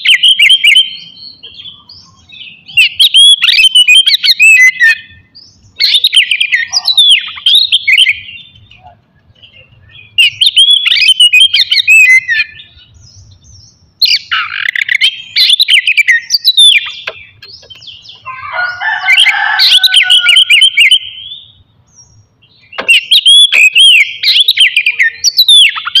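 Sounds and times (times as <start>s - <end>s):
bird singing whistled phrases: 0.0s - 8.9s, 9.5s - 21.6s, 22.6s - 26.0s.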